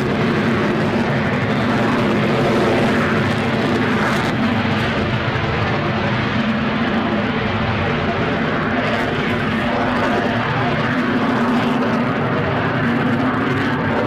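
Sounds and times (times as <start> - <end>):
jet engine running: 0.0 - 14.0.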